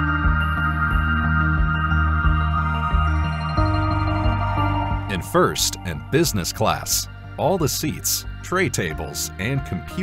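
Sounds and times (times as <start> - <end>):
ambient music with steady beat: 0.0 - 10.0.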